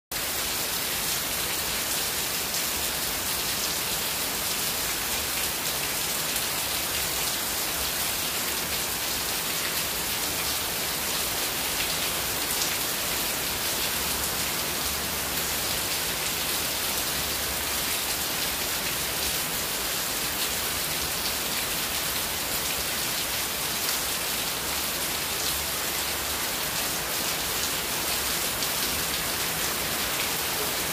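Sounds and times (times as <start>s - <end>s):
heavy rain on paving: 0.1s - 30.9s.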